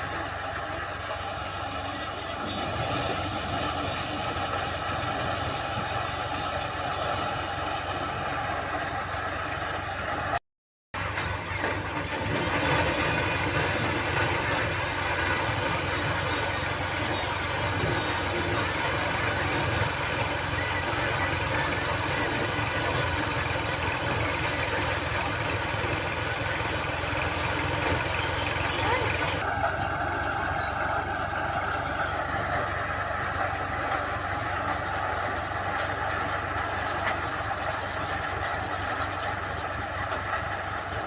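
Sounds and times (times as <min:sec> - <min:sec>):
diesel tractor running: 0:00.0 - 0:10.4, 0:11.0 - 0:41.0
thresher running: 0:00.0 - 0:10.4, 0:11.0 - 0:41.0.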